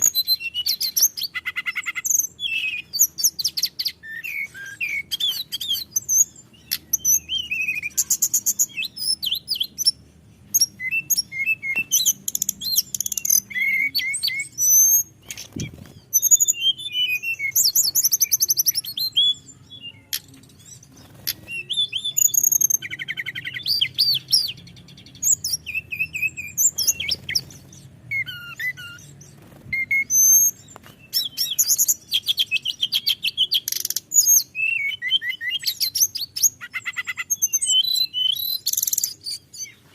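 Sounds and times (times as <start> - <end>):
bird singing high whistles: 0.0 - 39.8.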